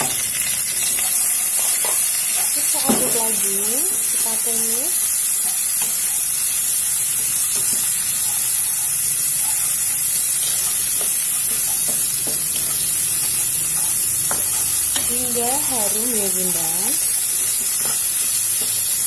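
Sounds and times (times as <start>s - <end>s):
spice paste sizzling in a wok: 0.0s - 19.0s.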